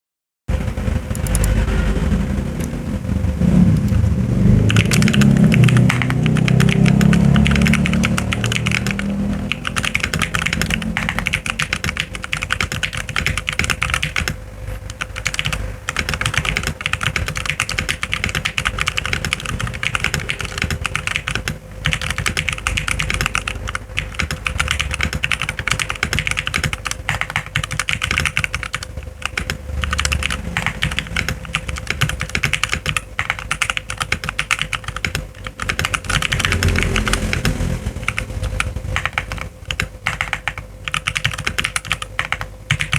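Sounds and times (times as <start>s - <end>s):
mechanical keyboard typing: 1.1s - 1.6s, 3.6s - 42.9s.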